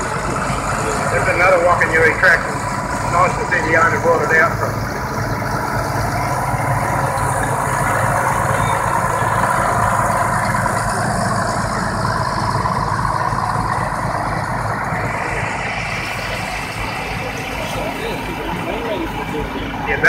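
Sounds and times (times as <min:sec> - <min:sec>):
tractor diesel engine passing: 0:00.0 - 0:20.0.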